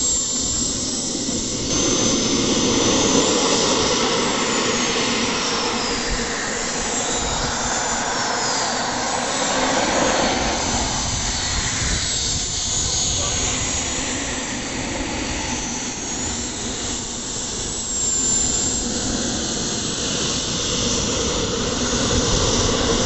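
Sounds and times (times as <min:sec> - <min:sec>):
model jet turbine roaring: 0:00.0 - 0:23.0.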